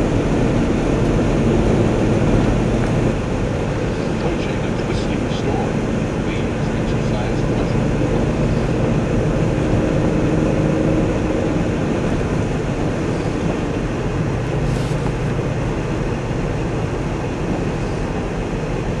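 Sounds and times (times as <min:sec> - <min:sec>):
road and engine noise: 0:00.0 - 0:19.0.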